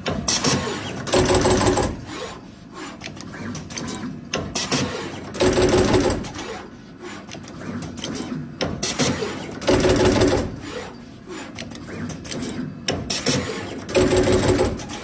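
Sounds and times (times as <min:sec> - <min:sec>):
machine working noise bursts: 0:00.0 - 0:15.0
wire cutting machine clatter: 0:00.0 - 0:15.0.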